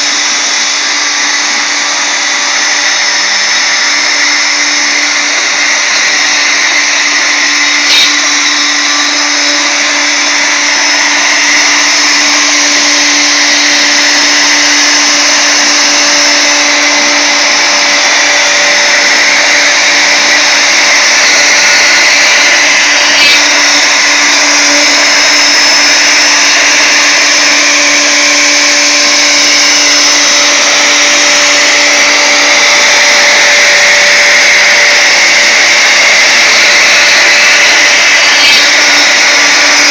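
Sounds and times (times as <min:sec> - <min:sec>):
router motor whining: 0:00.0 - 0:39.9.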